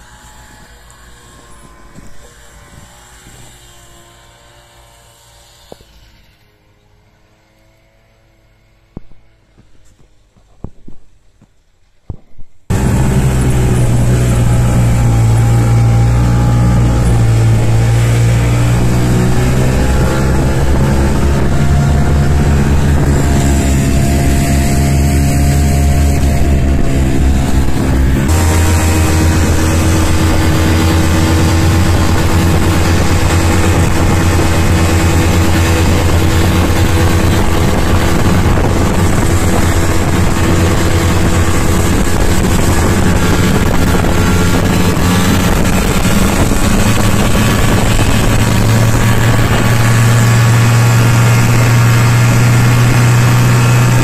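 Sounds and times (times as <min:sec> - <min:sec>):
snowmobile engine running: 0:00.0 - 0:10.8, 0:12.7 - 0:54.0.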